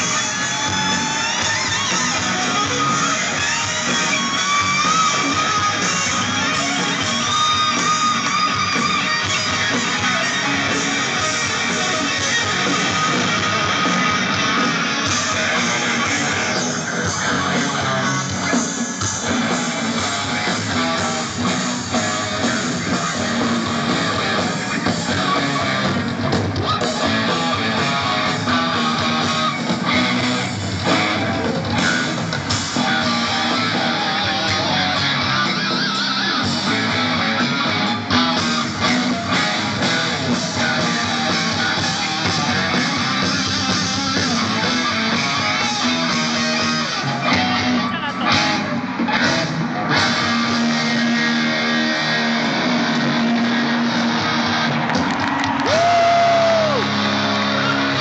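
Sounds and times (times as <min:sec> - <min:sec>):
hard rock band playing live: 0:00.0 - 0:58.0.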